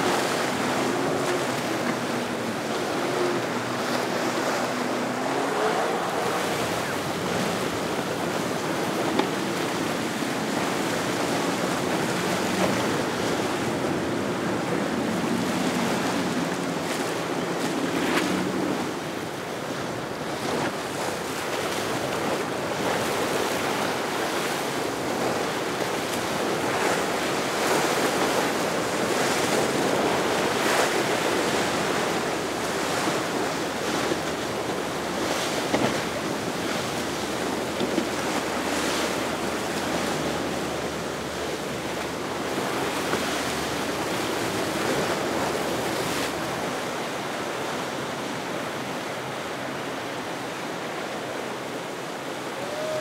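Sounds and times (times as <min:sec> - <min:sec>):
water rushing and splashing: 0:00.0 - 0:53.0.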